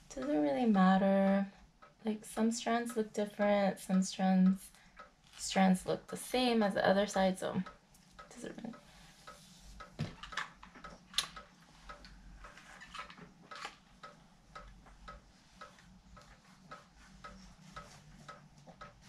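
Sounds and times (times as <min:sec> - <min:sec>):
faint regular ticking: 0:00.0 - 0:19.0.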